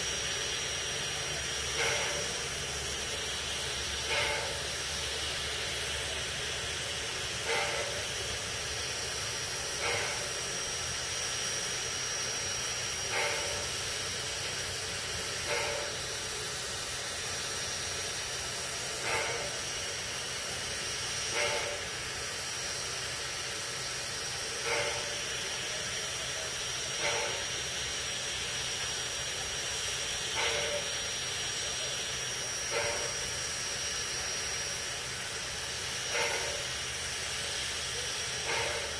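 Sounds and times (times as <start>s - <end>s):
sharp steam pulse: 0.0s - 38.9s
steam hissing from locomotive: 0.0s - 38.9s.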